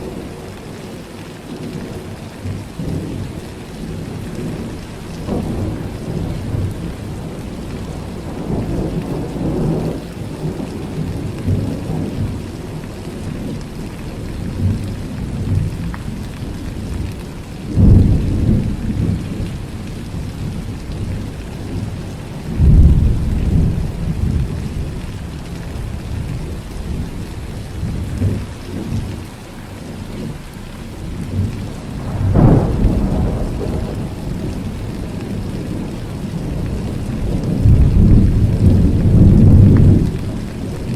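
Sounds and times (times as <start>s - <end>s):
steady rain: 0.0s - 40.9s
thunder claps: 2.4s - 29.0s, 31.0s - 40.9s
rolling thunder: 2.4s - 29.1s, 31.0s - 40.9s.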